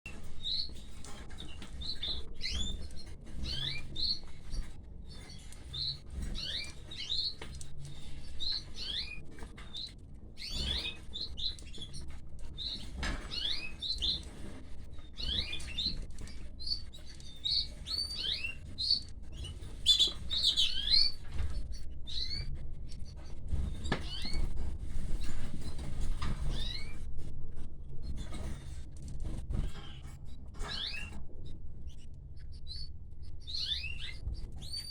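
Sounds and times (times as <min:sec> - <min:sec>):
canaries chirping: 0:00.1 - 0:22.5, 0:23.5 - 0:27.0, 0:29.3 - 0:31.2, 0:31.9 - 0:34.9.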